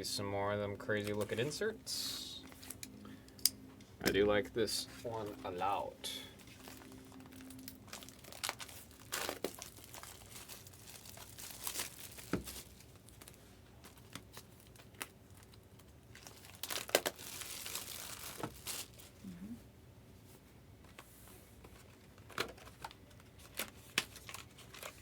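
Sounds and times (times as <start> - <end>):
wrappers crinkling and tearing: 0.9 - 3.7, 5.1 - 19.2, 21.8 - 25.0.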